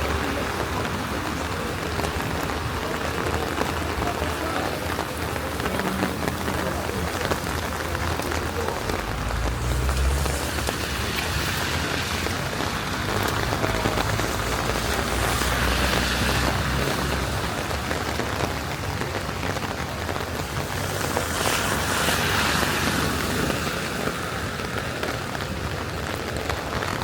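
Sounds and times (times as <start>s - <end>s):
rain falling on street: 0.0s - 27.0s.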